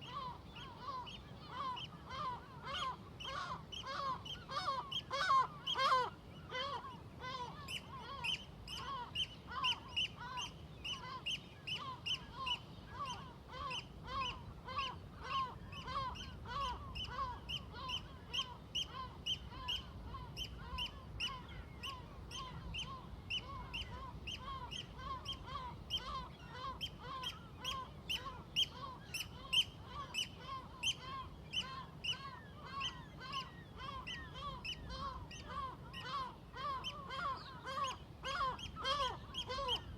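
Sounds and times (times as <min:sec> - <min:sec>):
seagulls calling: 0:00.0 - 0:39.9.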